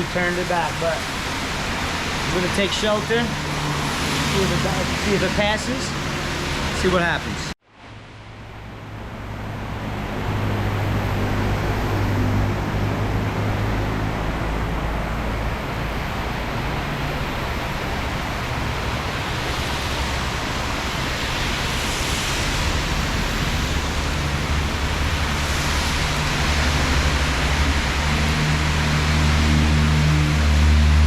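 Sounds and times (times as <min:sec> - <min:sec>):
heavy rain pouring: 0:00.0 - 0:07.6, 0:09.2 - 0:31.0.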